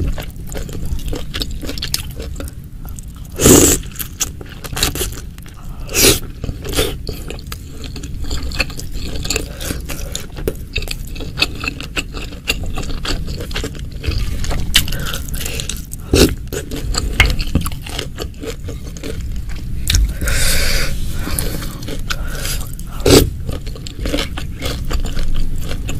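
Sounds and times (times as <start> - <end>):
wet chewing: 0.0 - 25.9.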